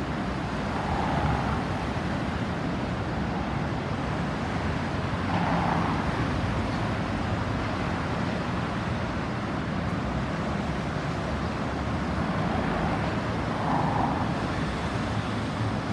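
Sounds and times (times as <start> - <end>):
road traffic driving past: 0.1 - 15.9.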